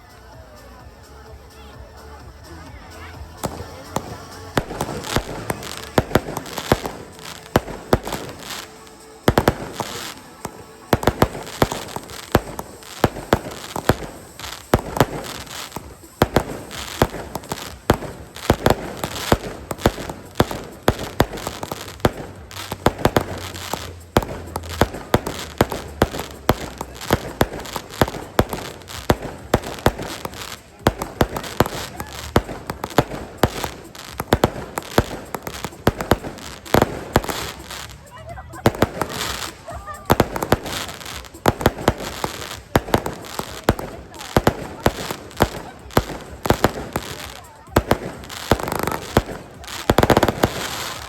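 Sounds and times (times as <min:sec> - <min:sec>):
firework crackling: 0:01.4 - 0:51.0
firework shells bursting: 0:03.4 - 0:38.0, 0:38.6 - 0:51.0.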